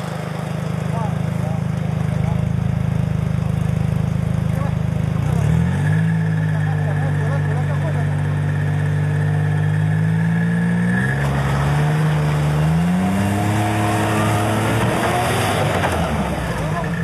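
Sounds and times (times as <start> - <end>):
atv engine revving under load: 0.9 - 17.0.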